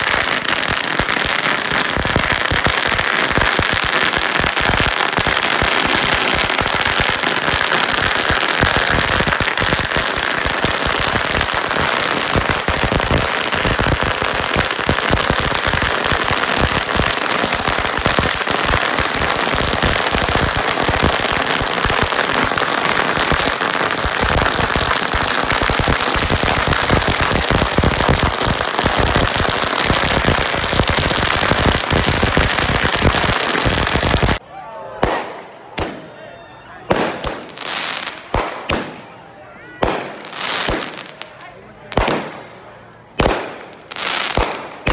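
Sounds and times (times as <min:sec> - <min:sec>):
firecrackers crackling: 0:00.0 - 0:34.4, 0:35.0 - 0:36.1, 0:36.8 - 0:44.9.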